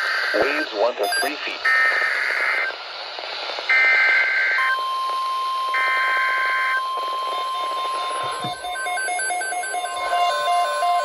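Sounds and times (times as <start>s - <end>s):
rapid alarm beeping: 0.0s - 2.8s, 3.6s - 11.0s.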